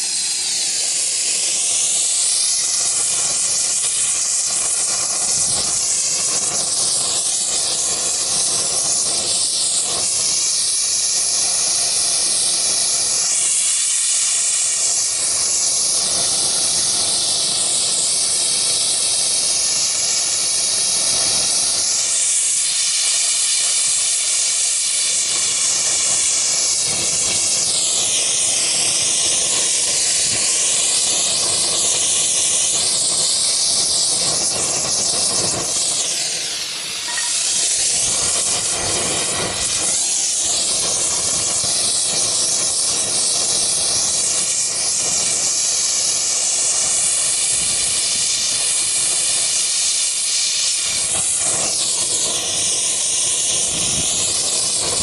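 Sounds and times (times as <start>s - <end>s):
gas torch flame hissing: 0.0s - 55.0s.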